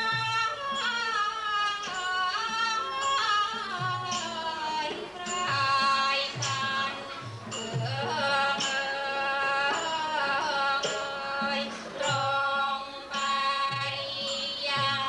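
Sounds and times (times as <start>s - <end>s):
percussion strokes: 0.0s - 15.0s.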